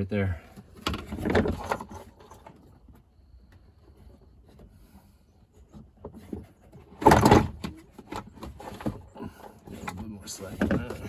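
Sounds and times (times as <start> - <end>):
handling parts and wiring: 0.0 - 11.0.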